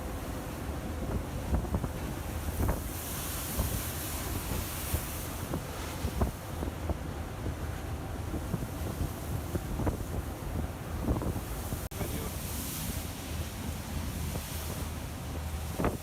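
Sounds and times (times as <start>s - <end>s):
heavy waves rushing: 0.0s - 16.0s
wind buffeting microphone: 0.2s - 12.9s, 13.9s - 16.0s.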